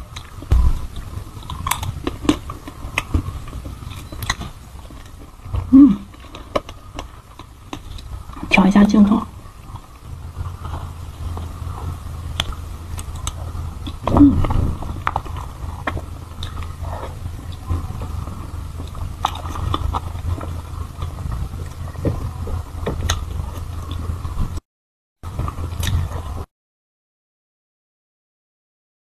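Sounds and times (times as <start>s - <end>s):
steady low hum: 0.0s - 24.6s, 25.2s - 26.5s.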